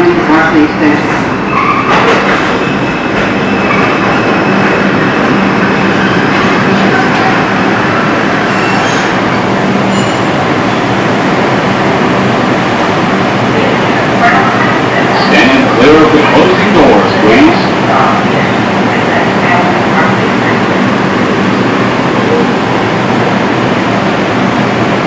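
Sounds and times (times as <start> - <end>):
subway wheels rumbling on rail: 0.0 - 25.0.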